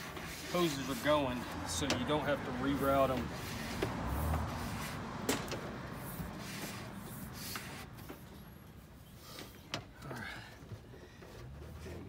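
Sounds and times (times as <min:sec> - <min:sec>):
rubber hoses rubbing: 0:00.0 - 0:09.7.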